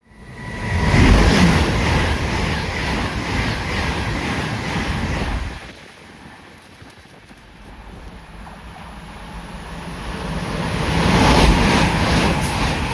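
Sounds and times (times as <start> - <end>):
train passing at speed: 0.0 - 5.8, 7.8 - 12.9.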